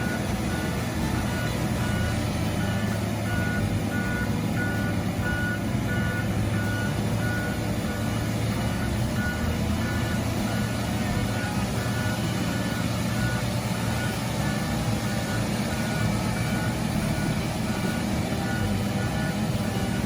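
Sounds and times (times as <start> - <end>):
diesel engine rumble: 0.0 - 20.0
reversing alarm beeping: 0.0 - 20.0.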